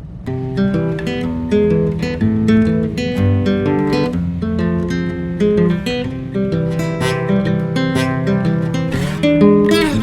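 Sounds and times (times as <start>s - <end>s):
strummed acoustic guitar music: 0.2s - 10.0s.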